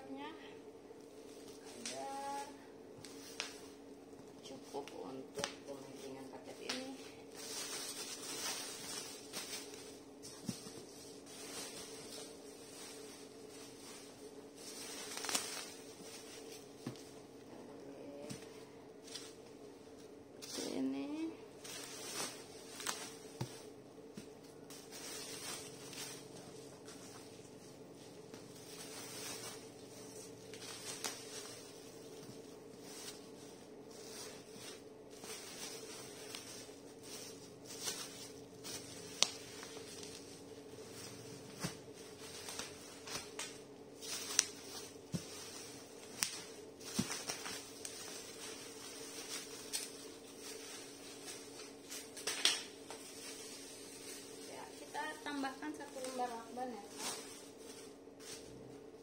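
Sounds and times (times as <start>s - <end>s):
steady low hum: 0.0s - 59.0s
cardboard and bubble wrap rustling: 1.0s - 59.0s.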